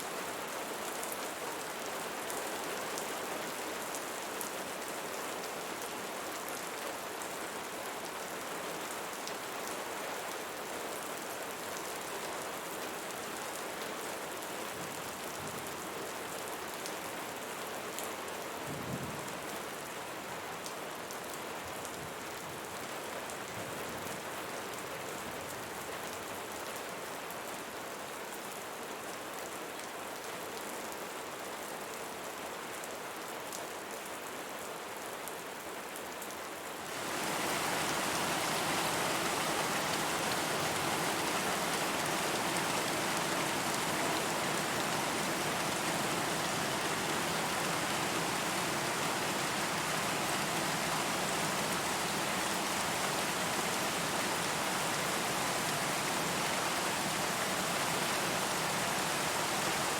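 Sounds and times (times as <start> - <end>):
rain falling: 0.0 - 27.2, 36.6 - 59.9.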